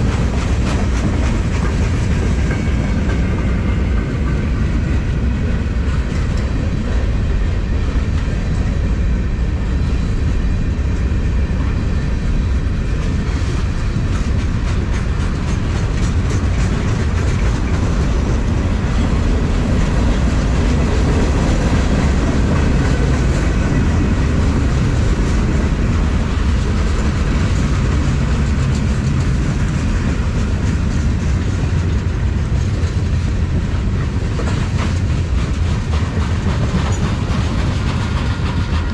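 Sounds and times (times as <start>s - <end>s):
wheels clicking over rail joints: 0.0s - 7.2s, 12.6s - 38.9s
freight train rumbling past: 0.0s - 38.9s.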